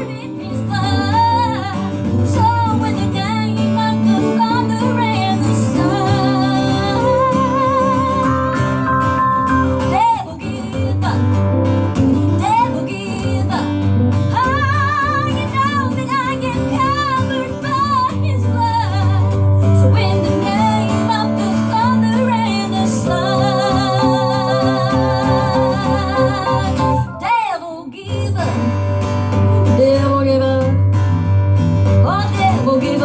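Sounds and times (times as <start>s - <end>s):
woman singing with vibrato: 0.0s - 11.5s, 12.1s - 28.8s, 29.7s - 30.8s, 32.0s - 33.0s
strummed acoustic guitar: 0.0s - 27.4s, 28.1s - 33.0s.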